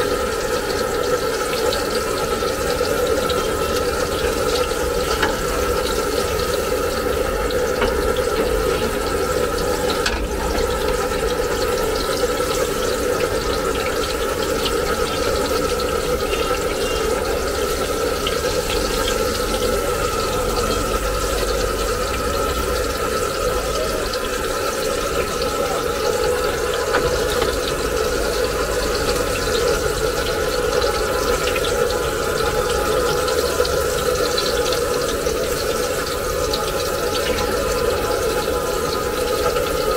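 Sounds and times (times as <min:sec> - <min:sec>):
hot oil sizzling: 0:00.0 - 0:39.9.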